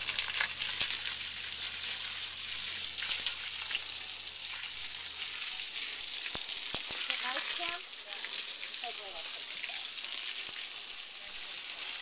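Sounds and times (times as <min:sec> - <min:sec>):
horse urinating on dirt: 0:00.0 - 0:12.0.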